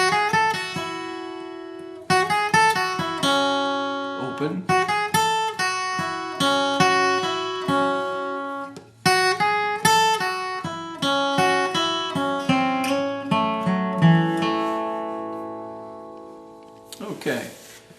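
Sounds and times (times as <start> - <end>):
acoustic guitar lead line: 0.0 - 17.9.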